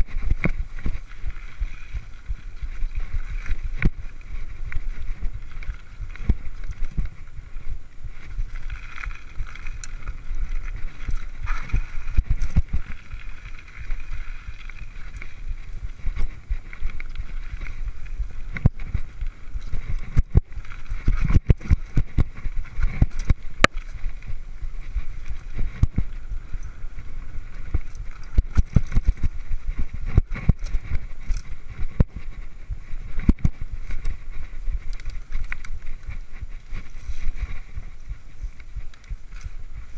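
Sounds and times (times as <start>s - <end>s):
bike knocking and rattling: 0.0s - 39.9s
wind rushing over microphone: 0.0s - 39.9s.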